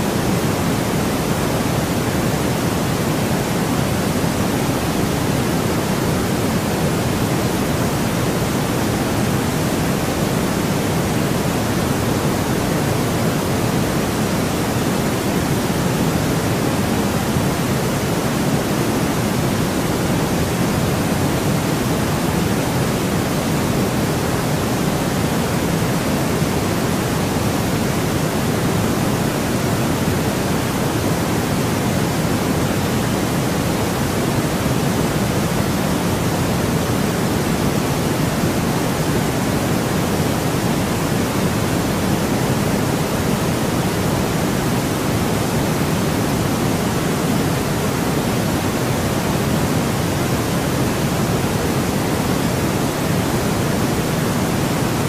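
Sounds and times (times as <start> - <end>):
steady synthetic noise hiss: 0.0 - 55.0.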